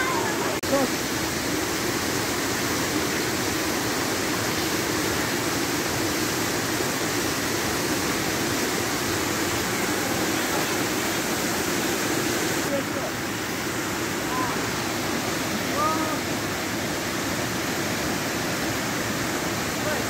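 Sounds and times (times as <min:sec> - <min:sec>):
rush of flowing water: 0:00.0 - 0:20.0.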